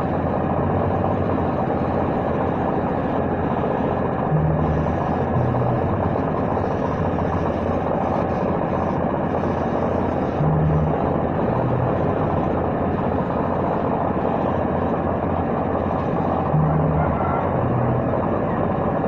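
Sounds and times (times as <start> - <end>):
air compressor running: 0.0 - 19.0
air through spray gun: 0.0 - 19.0.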